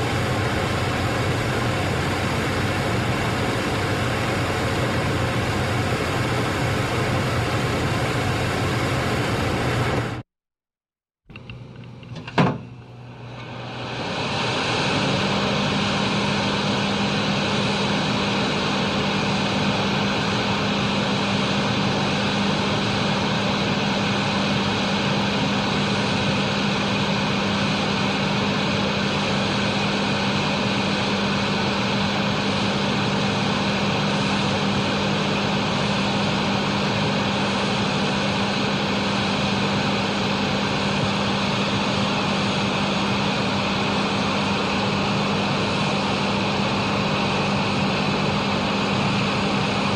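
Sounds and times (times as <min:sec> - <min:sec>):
exhaust fan air rush: 0:00.0 - 0:10.2, 0:11.3 - 0:49.9
fan motor hum: 0:00.0 - 0:10.2, 0:11.3 - 0:49.9.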